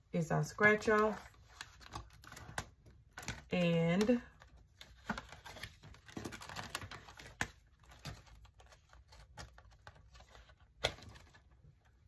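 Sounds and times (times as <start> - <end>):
plastic sleeve pages rustling: 0.4 - 12.0.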